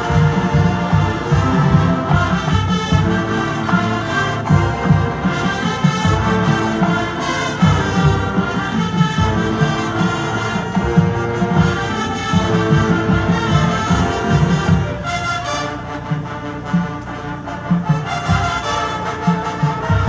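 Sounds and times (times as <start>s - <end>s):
brass chords: 0.0s - 20.0s
steady drum beat: 0.0s - 20.0s.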